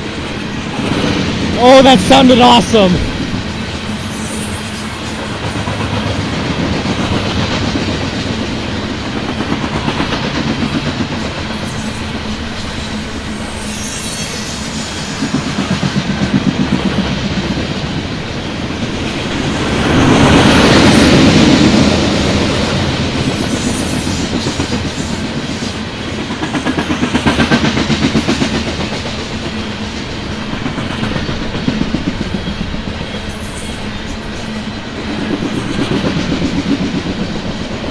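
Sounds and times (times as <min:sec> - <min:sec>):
train wheels clattering over rails: 0:03.0 - 0:37.9.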